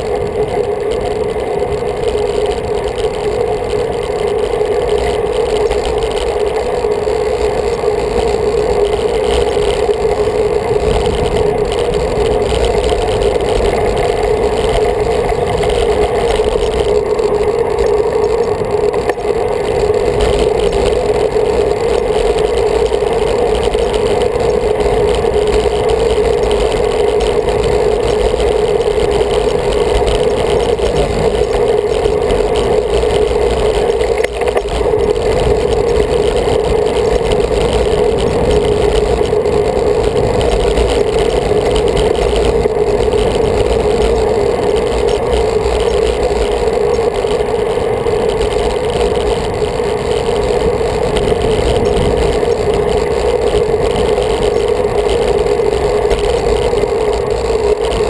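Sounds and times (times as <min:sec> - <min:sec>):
tyres on road: 0:00.0 - 0:58.0
wind rush on microphone: 0:00.0 - 0:58.0.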